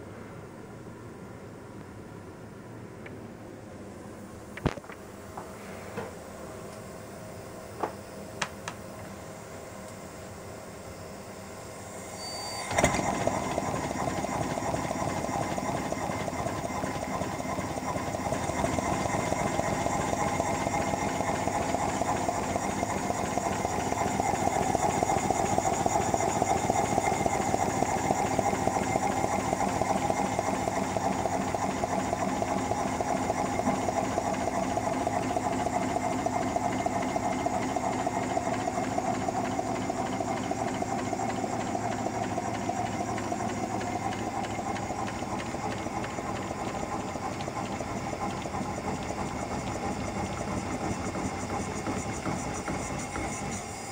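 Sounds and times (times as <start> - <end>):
model steam engine chuffing air: 10.6 - 53.9.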